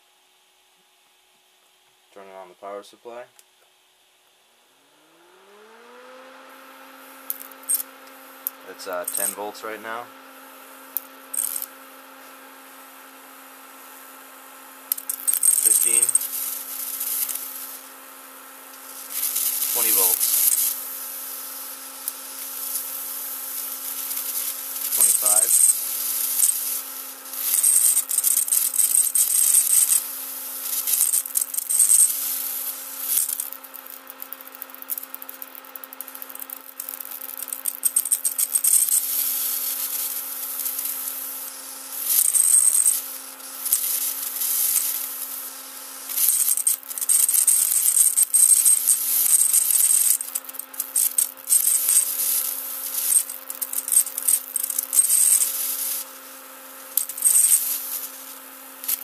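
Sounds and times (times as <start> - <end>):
electric arc hissing and crackling: 6.9 - 59.0.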